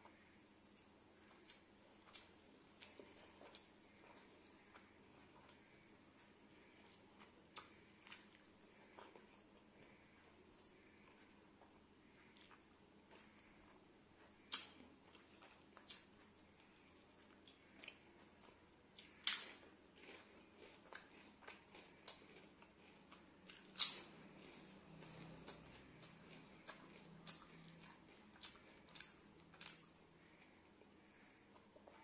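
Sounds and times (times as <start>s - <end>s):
chewing and biting: 0.6s - 32.0s.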